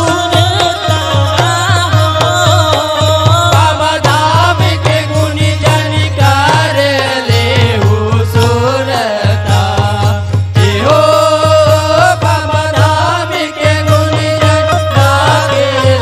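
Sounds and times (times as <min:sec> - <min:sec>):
devotional song melody: 0:00.0 - 0:16.0
hand drums beating: 0:00.0 - 0:16.0.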